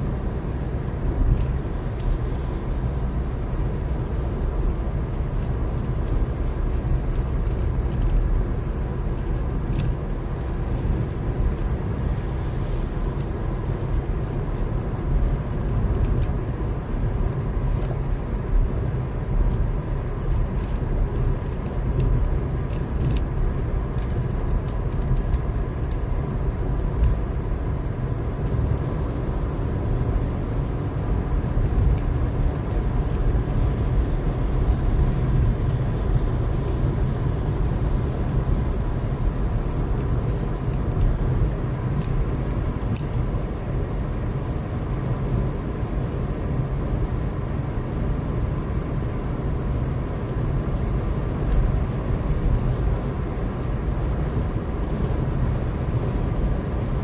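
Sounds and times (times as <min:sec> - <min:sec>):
car road rumble from inside: 0:00.0 - 0:57.0.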